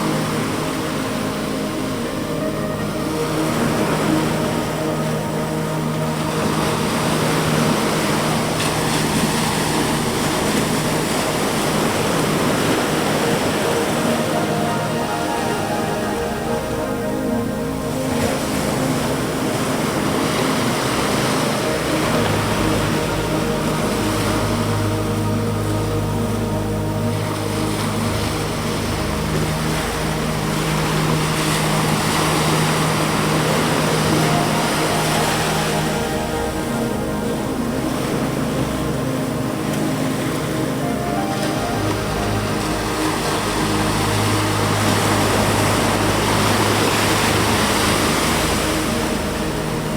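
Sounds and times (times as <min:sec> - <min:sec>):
ocean surf washing ashore: 0:00.0 - 0:49.9
soft ambient synth drone: 0:00.0 - 0:49.9.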